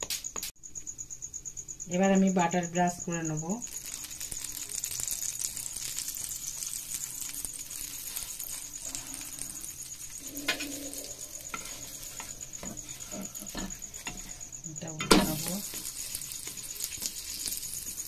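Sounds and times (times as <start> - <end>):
butter sizzling in a frying pan: 2.3 - 18.0.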